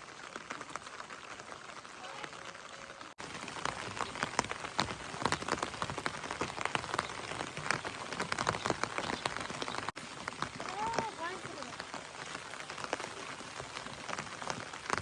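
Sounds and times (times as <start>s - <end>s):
rain hiss: 0.0s - 15.0s
raindrops ticking on hard surface: 0.0s - 15.0s.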